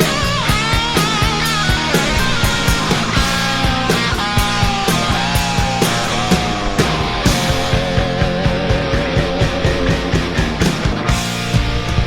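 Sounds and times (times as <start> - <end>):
distorted rock guitar: 0.0 - 12.0
fast drum beat: 0.0 - 12.0.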